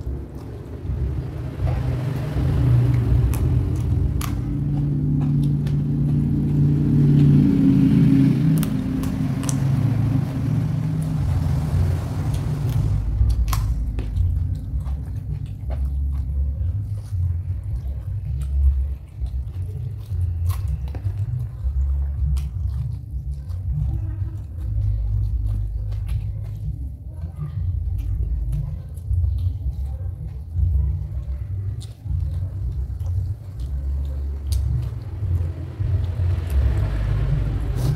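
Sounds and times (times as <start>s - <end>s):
crunching raw vegetables: 0.0s - 37.9s
low rumble: 0.0s - 37.9s.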